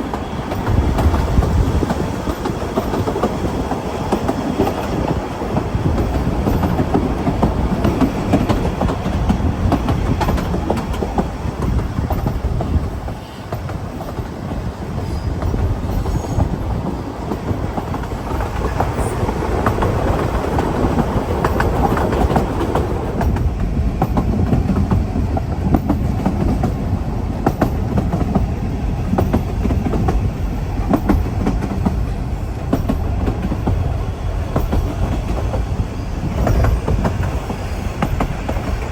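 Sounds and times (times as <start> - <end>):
train wheels rumbling on rails: 0.0 - 38.9
wheels clicking over rail joints: 0.0 - 38.9.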